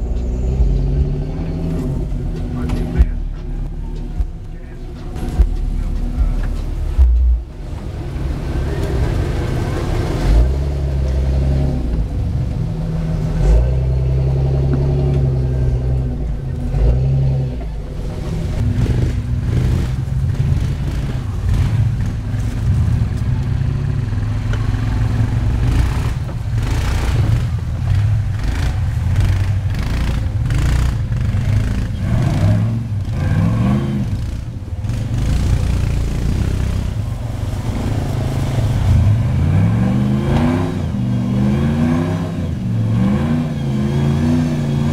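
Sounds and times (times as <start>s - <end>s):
buggy engine revving: 0.0s - 44.9s.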